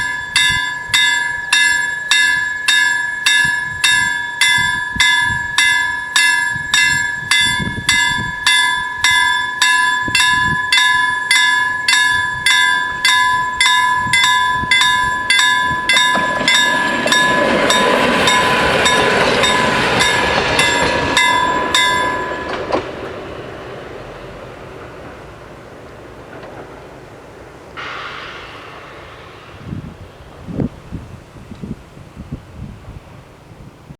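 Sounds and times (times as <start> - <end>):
level-crossing warning bells: 0.0 - 32.0
train passing: 0.0 - 33.6.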